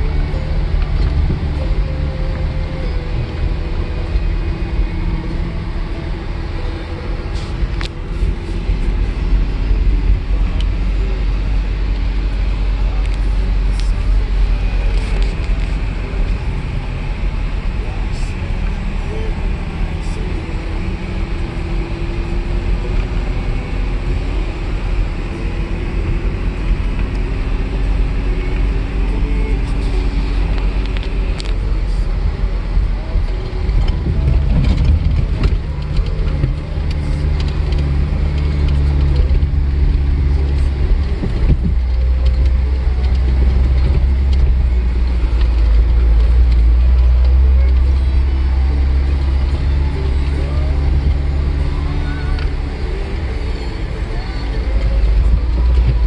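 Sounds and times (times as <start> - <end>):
off-road vehicle engine droning: 0.0 - 56.0.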